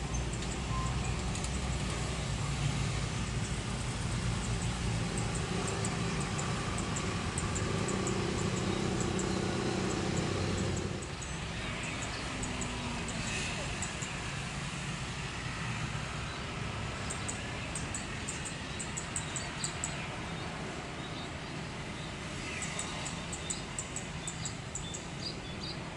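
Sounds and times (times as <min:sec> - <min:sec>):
engine rumbling: 0:00.0 - 0:25.9.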